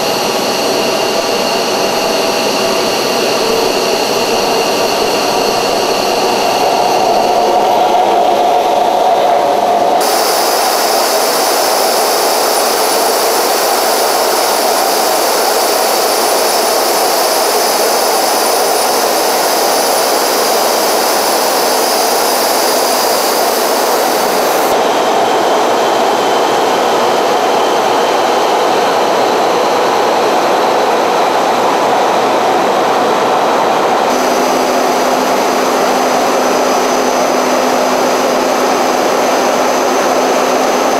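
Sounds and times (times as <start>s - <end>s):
high steady whines: 0.0s - 40.9s
jet engine roar inside aircraft: 0.0s - 40.9s.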